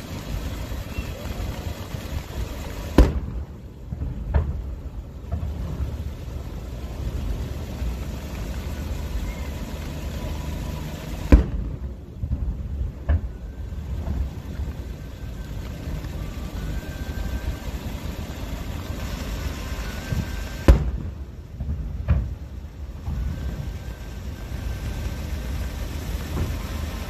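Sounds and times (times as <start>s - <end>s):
fainter firework cracks: 0.0s - 27.0s
loud firework bangs: 0.0s - 27.0s
steady low rumble: 0.0s - 27.0s.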